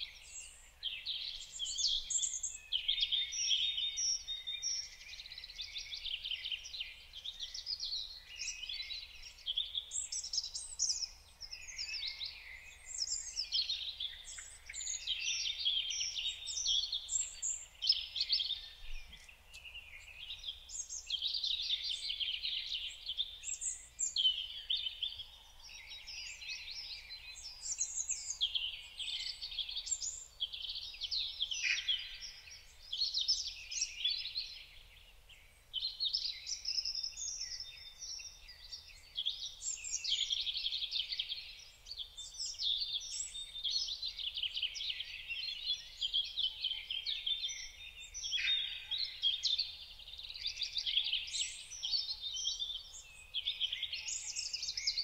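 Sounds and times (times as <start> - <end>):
songbirds singing and twittering: 0.0 - 55.0.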